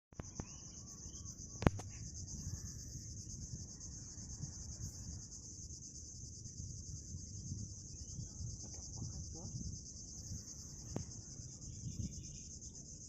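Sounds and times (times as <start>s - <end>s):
insects trilling: 0.2s - 13.0s.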